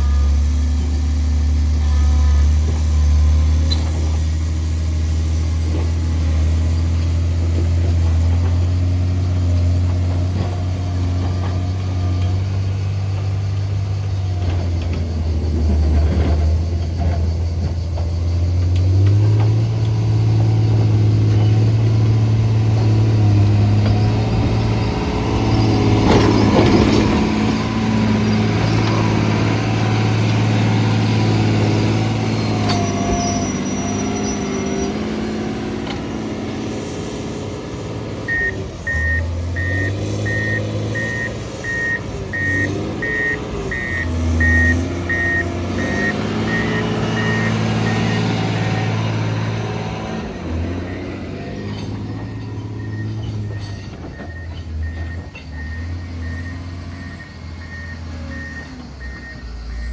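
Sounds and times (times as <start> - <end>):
diesel engine working: 0.0 - 59.9
reversing alarm beeping: 11.4 - 59.9.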